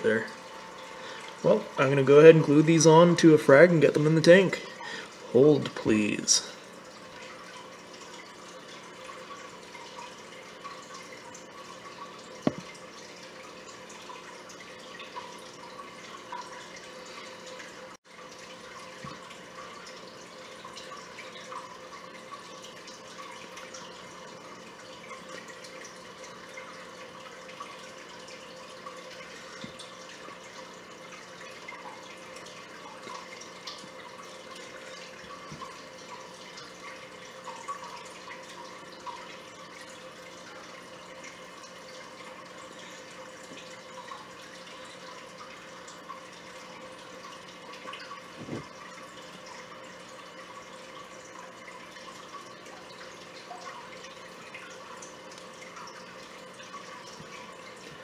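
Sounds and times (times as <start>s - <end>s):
faint steady hum: 0.0s - 58.0s
water trickling and dripping: 0.0s - 58.0s.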